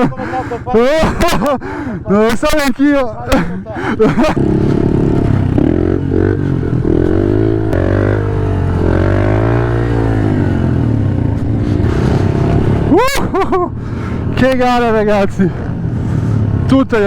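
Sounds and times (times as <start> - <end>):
pit bike engine running: 3.1 - 17.0.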